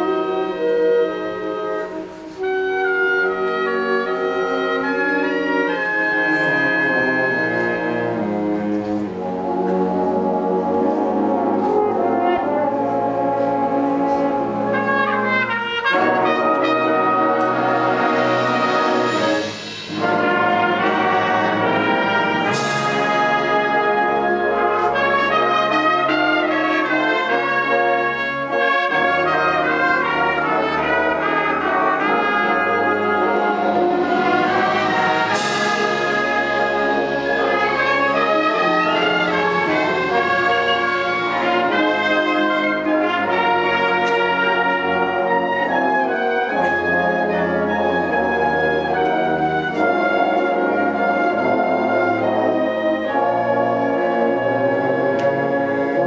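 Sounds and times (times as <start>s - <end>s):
wind band brass chords: 0.0s - 56.0s.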